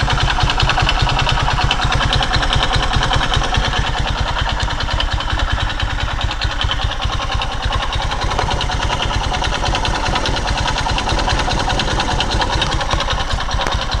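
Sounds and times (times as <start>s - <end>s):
motorcycle engine idling with knocking: 0.0s - 14.0s.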